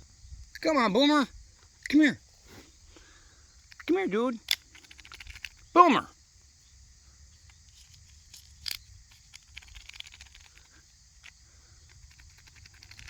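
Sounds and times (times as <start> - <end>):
high insect drone: 0.0 - 13.0
faint rapid ticks and rustles: 1.6 - 13.0.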